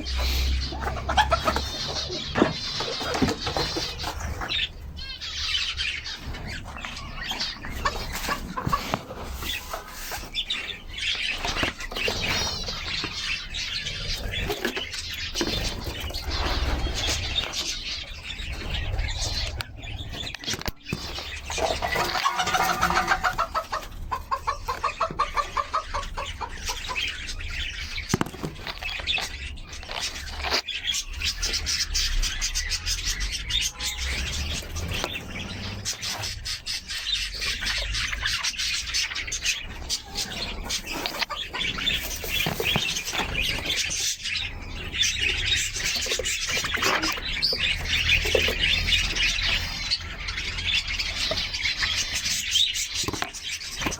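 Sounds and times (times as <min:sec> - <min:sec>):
fast repeated bird calls: 0:00.0 - 0:53.9
small birds chirping and twittering: 0:00.0 - 0:53.9.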